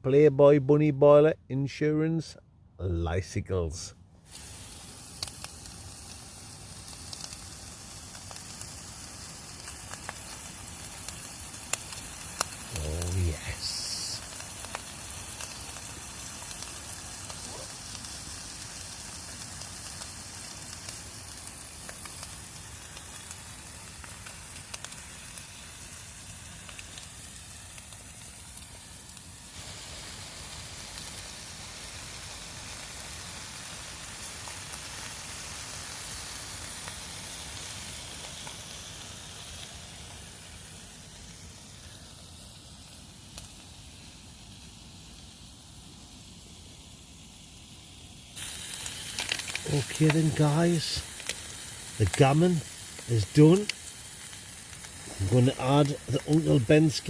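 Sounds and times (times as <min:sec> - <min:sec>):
meat sizzling in a frying pan: 0:04.2 - 0:57.0.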